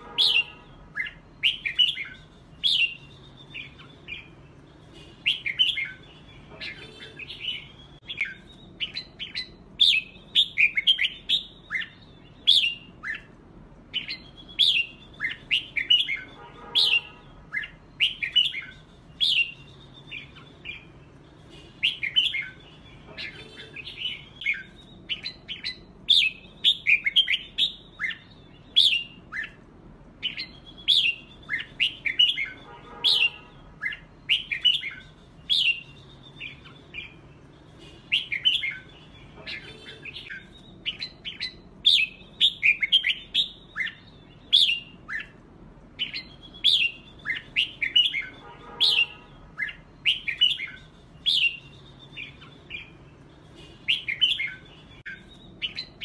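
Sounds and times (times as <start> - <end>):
birds singing whistled phrases: 0.0 - 56.0.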